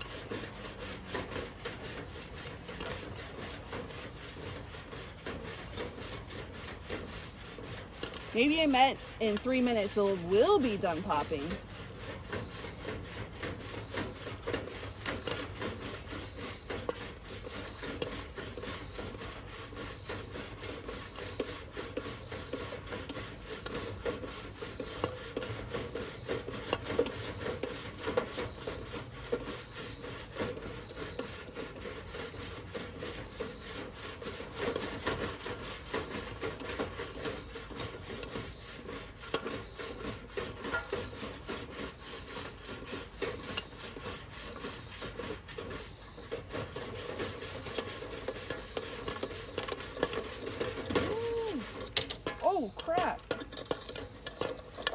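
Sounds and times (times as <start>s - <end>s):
popcorn popping: 0.0s - 54.9s
popper scraping rattle: 0.0s - 54.9s.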